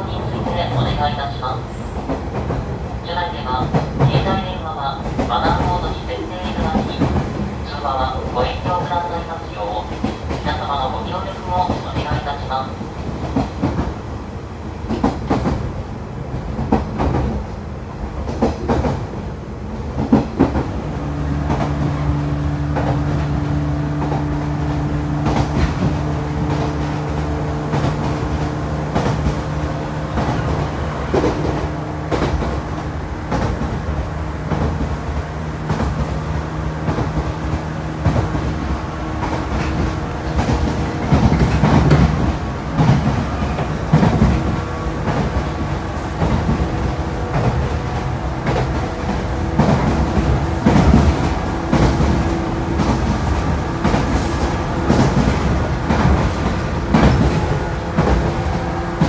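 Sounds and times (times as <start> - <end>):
clickety-clack of rail joints: 0.0 - 59.0
train wheels rumbling on rail: 0.0 - 59.0.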